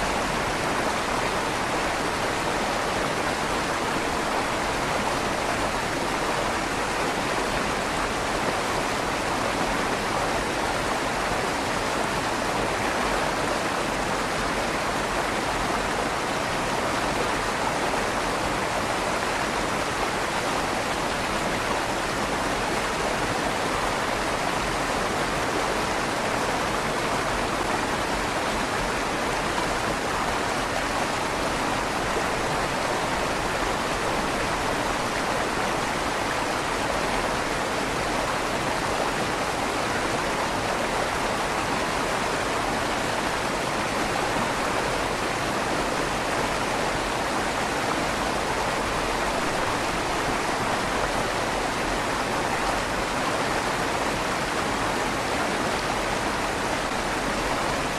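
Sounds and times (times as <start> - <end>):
river water rushing under bridge: 0.0 - 57.9.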